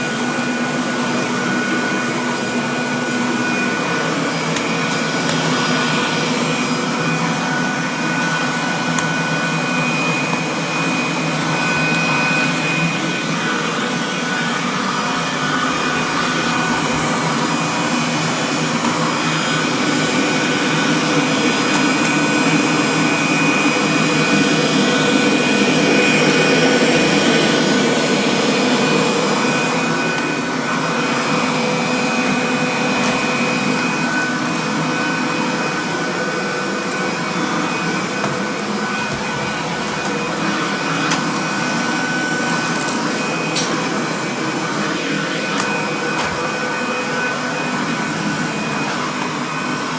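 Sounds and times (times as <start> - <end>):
vacuum cleaner whining: 0.0 - 49.9.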